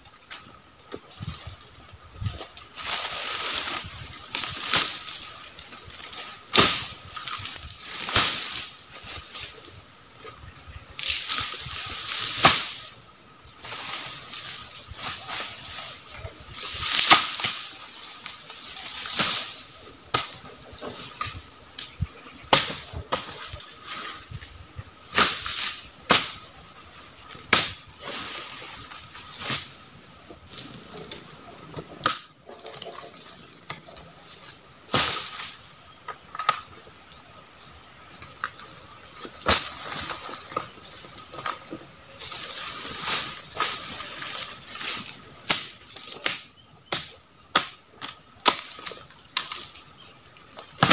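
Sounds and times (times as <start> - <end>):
insect chorus drone: 0.0 - 50.9.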